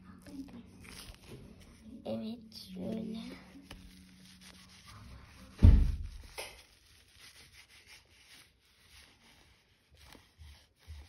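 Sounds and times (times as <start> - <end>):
cloth scrubbing plastic doll: 0.2 - 11.0.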